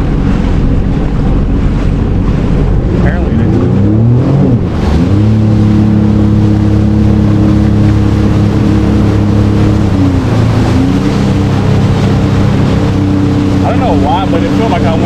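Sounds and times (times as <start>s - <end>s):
jet ski engine running: 0.0s - 15.0s.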